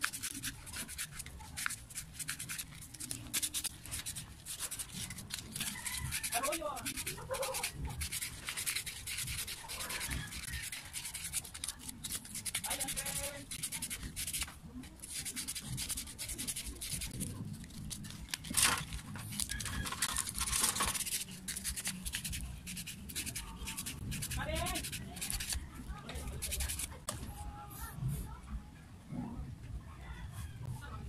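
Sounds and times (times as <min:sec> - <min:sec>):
sandpaper scraping metal: 0:00.0 - 0:27.0.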